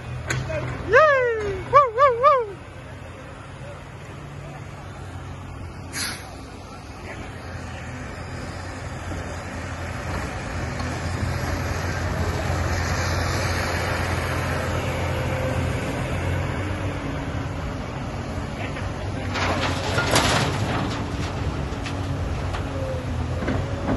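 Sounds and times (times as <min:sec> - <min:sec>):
heavy diesel engines running: 0:00.0 - 0:23.9.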